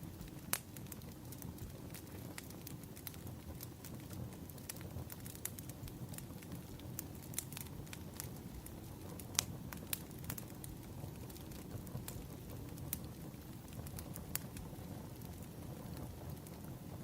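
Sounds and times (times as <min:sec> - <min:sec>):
fire crackling and popping: 0:00.0 - 0:17.0
low rush of flame: 0:00.0 - 0:17.0.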